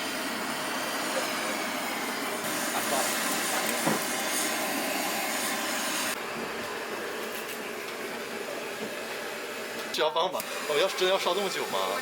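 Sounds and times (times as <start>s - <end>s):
gas torch hissing: 0.0s - 6.2s, 7.2s - 12.0s.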